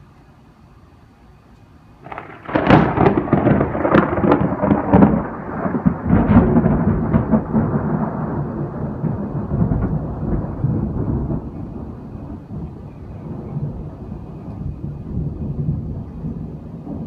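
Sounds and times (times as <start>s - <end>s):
thunderclap crackling and rumbling: 2.0s - 17.0s.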